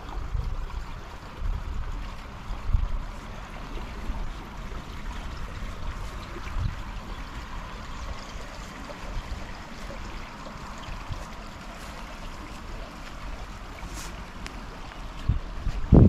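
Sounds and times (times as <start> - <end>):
river water running: 0.0 - 16.0.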